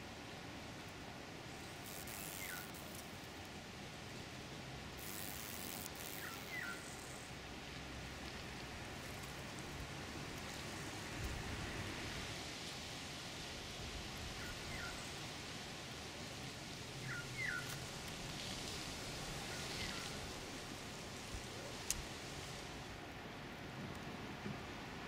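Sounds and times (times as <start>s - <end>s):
faint outdoor background hiss: 0.0s - 25.0s.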